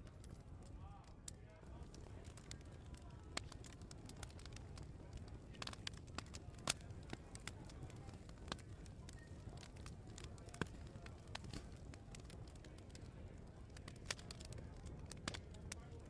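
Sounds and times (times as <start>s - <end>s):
low steady background murmur: 0.0s - 16.0s
sharp snaps of fire: 0.0s - 16.0s
wood fire crackling and popping: 0.0s - 16.0s.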